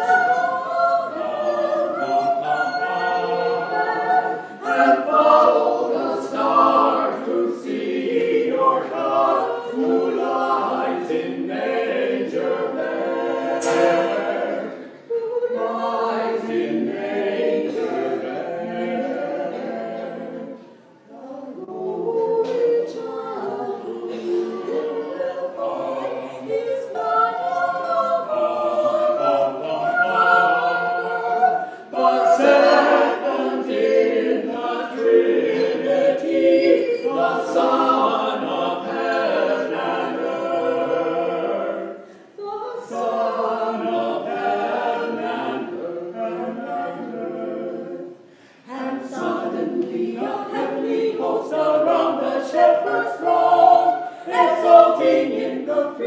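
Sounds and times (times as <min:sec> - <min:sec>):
choir singing unaccompanied: 0:00.0 - 0:56.0.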